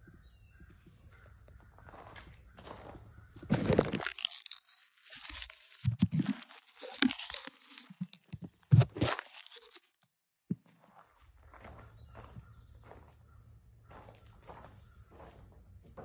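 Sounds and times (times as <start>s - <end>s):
footsteps crunching on gravel: 1.2s - 9.8s, 10.5s - 16.0s.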